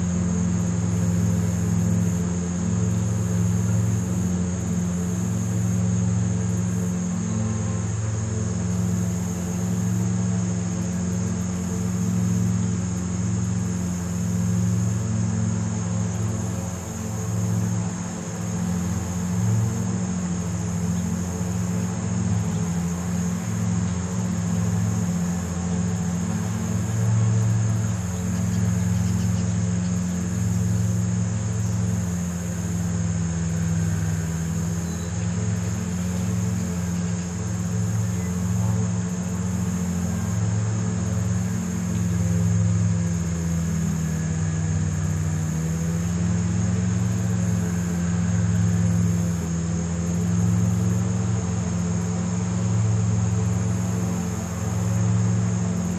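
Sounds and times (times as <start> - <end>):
constant low hum: 0.0 - 55.9
distant traffic drone: 0.0 - 55.9
insects chirring: 0.0 - 55.9.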